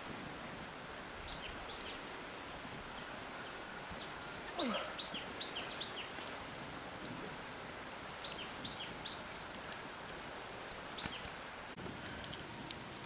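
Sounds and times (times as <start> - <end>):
outdoor hiss: 0.0 - 13.0
wood fire crackling: 0.0 - 13.0.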